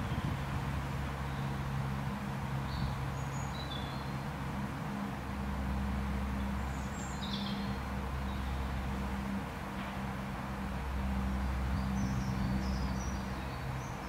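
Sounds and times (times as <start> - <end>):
background noise: 0.0 - 14.0.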